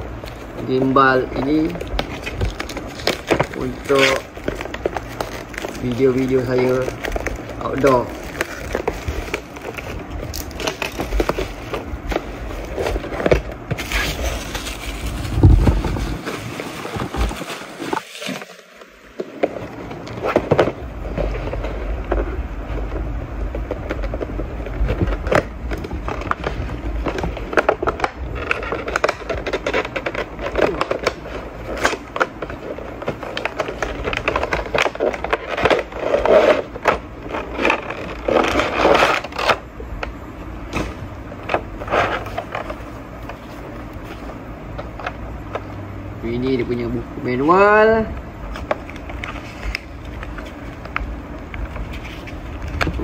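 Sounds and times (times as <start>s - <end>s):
plastic wrap crinkling: 0.1s - 45.6s, 47.7s - 53.0s.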